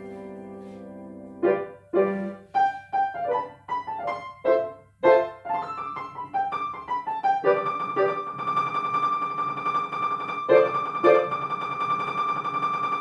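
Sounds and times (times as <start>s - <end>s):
grand piano playing: 0.0s - 13.0s.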